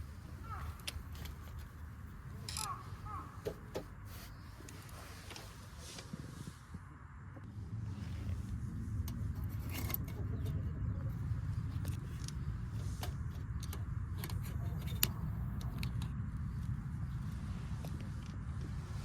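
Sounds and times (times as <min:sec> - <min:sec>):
light clicks and rattles: 0:00.0 - 0:06.1, 0:09.0 - 0:18.7
car rumble: 0:00.0 - 0:19.0.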